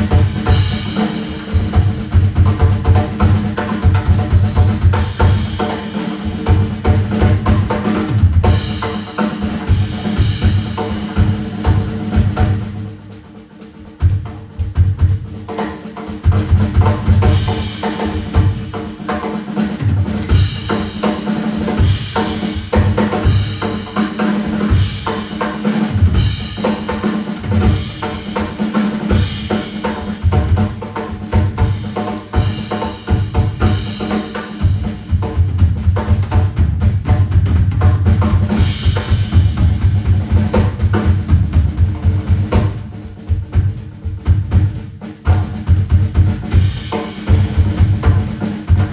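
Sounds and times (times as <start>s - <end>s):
drum kit solo: 0.0s - 48.9s.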